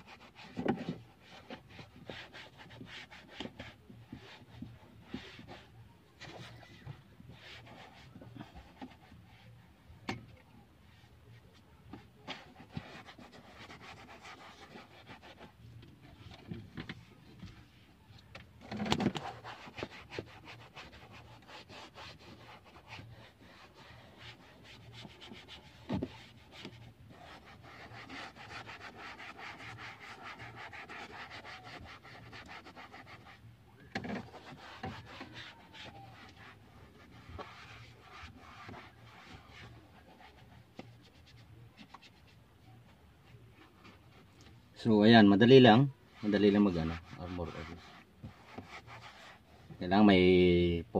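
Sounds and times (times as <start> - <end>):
cloth wiping plastic dashboard: 0.0 - 50.3.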